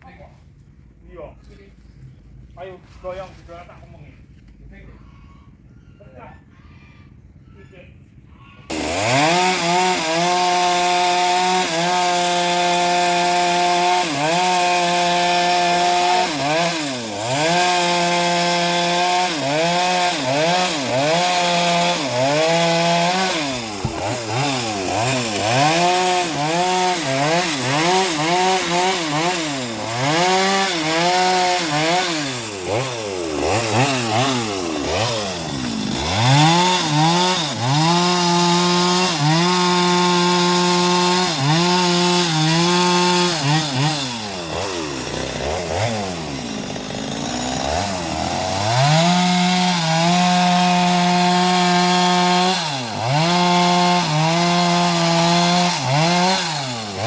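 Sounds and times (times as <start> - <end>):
bandsaw mill sawing timber: 8.7 - 57.0.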